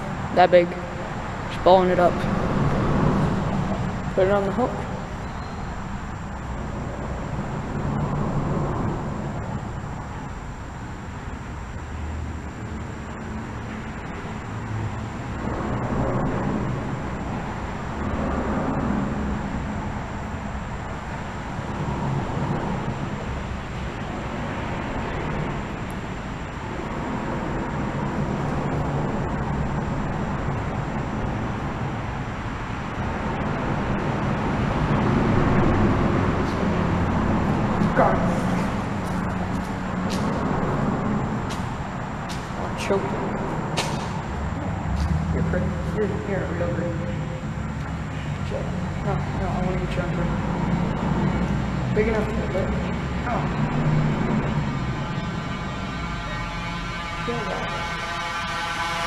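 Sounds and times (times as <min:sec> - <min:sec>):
road traffic noise: 0:00.0 - 0:59.0.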